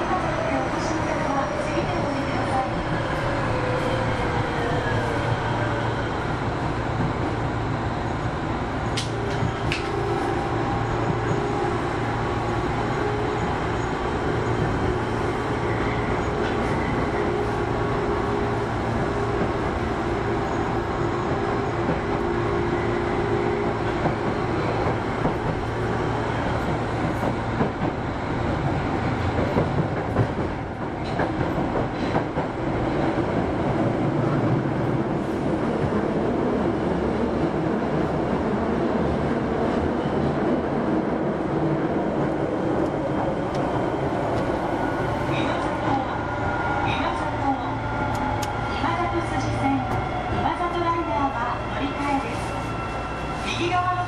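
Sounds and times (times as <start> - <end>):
subway train rumbling in tunnel: 0.0 - 54.0.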